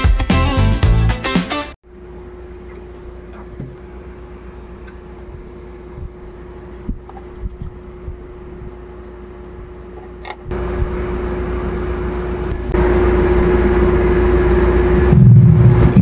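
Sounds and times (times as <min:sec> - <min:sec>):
low hum: 0:01.9 - 0:16.0.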